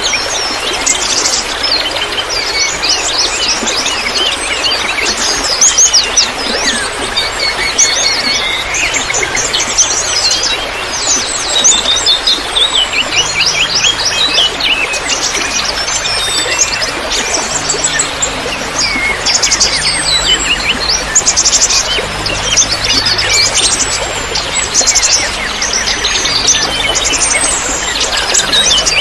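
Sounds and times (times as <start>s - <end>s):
songbirds chirping: 0.0s - 29.0s
trickling water: 0.0s - 29.0s.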